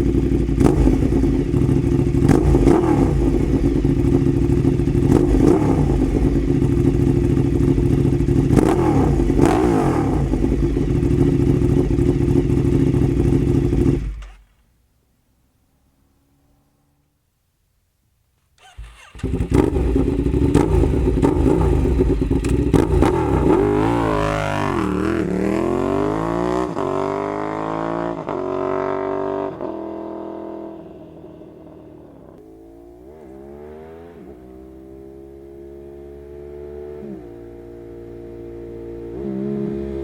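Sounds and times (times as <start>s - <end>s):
motorcycle accelerating: 0.0s - 14.4s, 18.6s - 40.0s.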